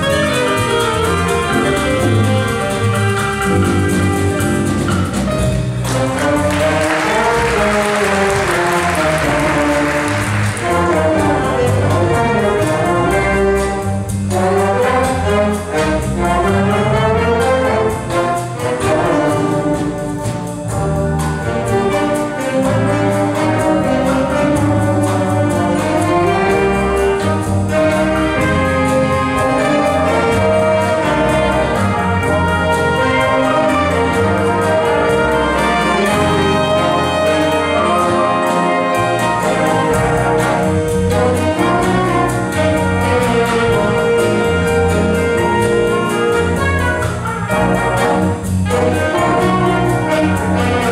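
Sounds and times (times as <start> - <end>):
brass instruments: 0.0 - 50.9
ensemble playing live: 0.0 - 50.9
moving bass line: 0.0 - 50.9.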